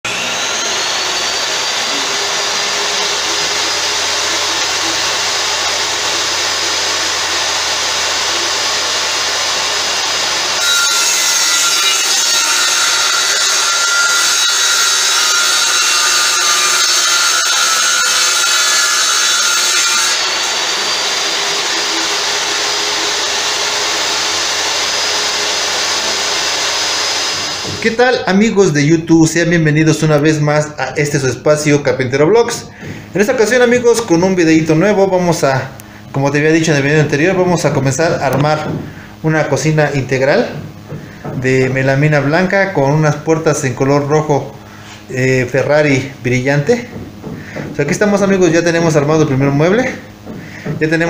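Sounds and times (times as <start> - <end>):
power tool running: 0.0 - 28.3, 32.6 - 51.0.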